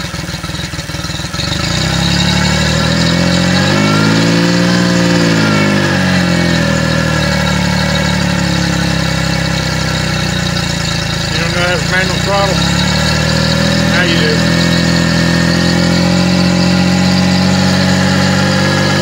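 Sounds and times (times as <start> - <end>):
outboard engine running: 0.0 - 19.0.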